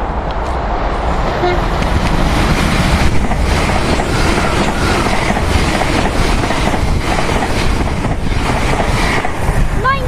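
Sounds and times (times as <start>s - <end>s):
passenger train passing: 0.0s - 10.0s.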